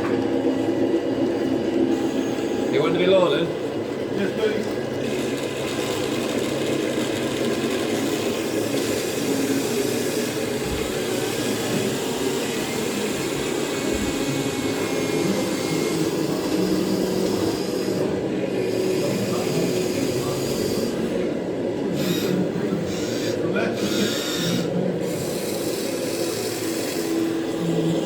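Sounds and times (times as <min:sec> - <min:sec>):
electric motors whirring: 0:00.0 - 0:28.0.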